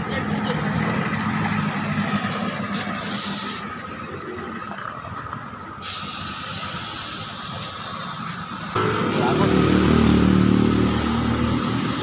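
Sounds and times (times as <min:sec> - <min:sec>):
street noise hiss: 0:00.3 - 0:04.7, 0:05.4 - 0:12.0.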